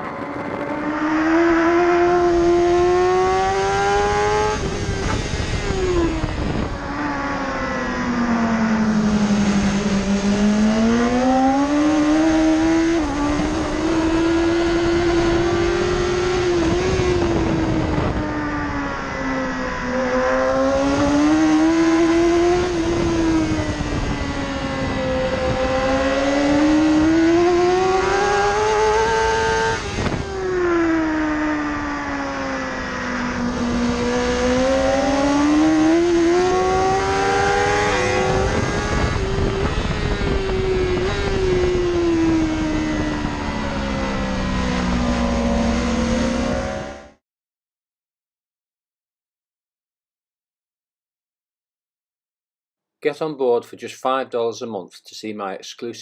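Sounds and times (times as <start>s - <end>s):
wind noise: 0.0s - 47.0s
motorcycle engine revving: 0.0s - 47.2s.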